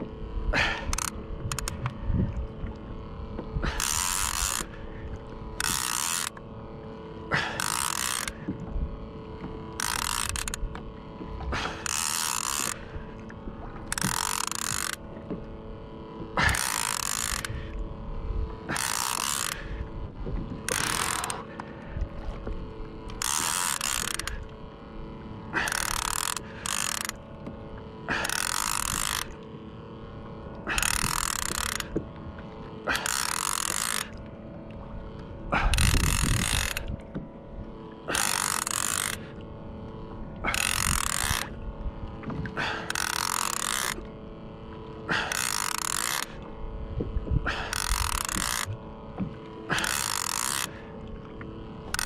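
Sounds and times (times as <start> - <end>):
fishing reel ratcheting: 0.0 - 34.4, 35.1 - 37.1, 37.8 - 52.0.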